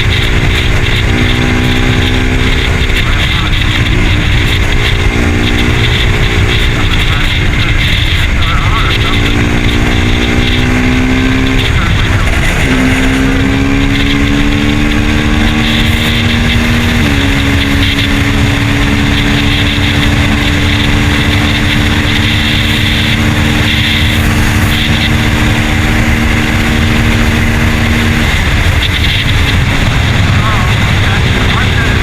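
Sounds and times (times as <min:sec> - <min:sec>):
motorcycle engine running: 0:00.0 - 0:32.0
wind noise on microphone: 0:00.0 - 0:32.0.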